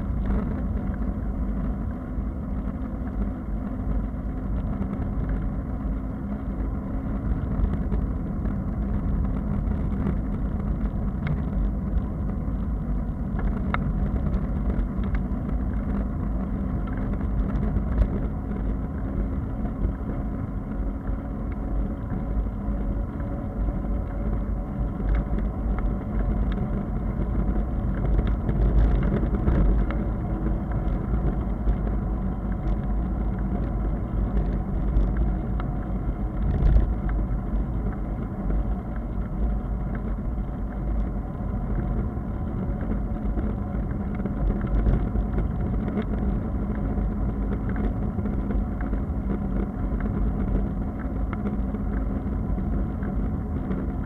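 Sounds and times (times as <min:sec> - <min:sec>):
wind and tyre rumble: 0:00.0 - 0:54.0
bicycle clicks and rattles: 0:07.0 - 0:54.0.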